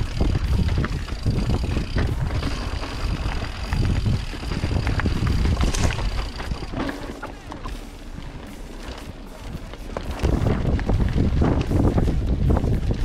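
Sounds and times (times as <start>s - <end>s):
bike rattling over rocks: 0.0s - 13.0s
wind buffeting microphone: 0.0s - 13.0s
tyres rolling over stone: 0.4s - 12.0s.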